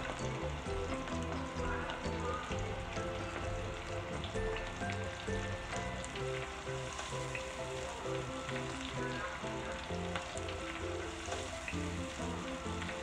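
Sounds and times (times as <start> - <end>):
background music with beat: 0.0 - 13.0
shrimp sizzling in hot oil: 0.0 - 13.0
skimmer stirring oil: 0.0 - 13.0.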